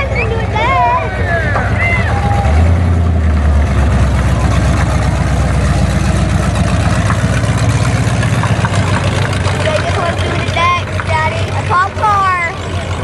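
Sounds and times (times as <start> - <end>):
car engine running low revs: 0.0 - 13.0.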